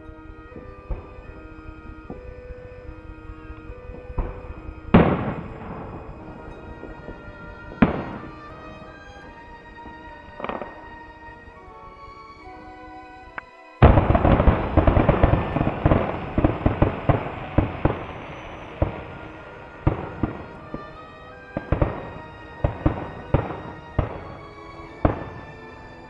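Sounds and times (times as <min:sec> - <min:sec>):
fireworks bangs and crackles: 0:00.0 - 0:12.7, 0:13.3 - 0:26.0
faint background music: 0:00.0 - 0:26.0.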